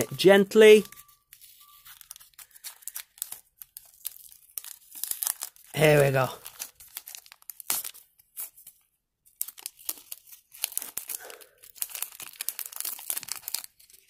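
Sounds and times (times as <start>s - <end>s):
foil packet tearing and crinkling: 0.9s - 14.0s.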